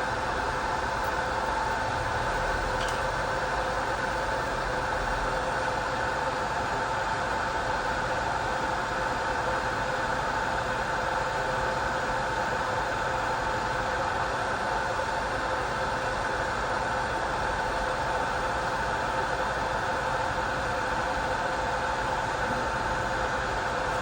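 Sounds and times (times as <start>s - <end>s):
machine hum with whine: 0.0s - 24.0s.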